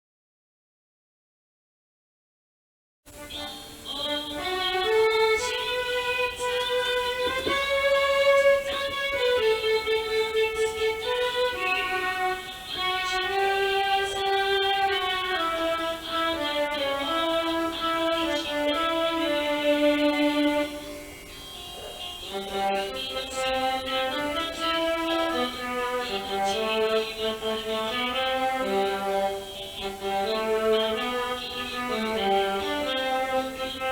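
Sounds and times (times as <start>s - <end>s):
electronic organ playing pop song: 3.1s - 33.9s.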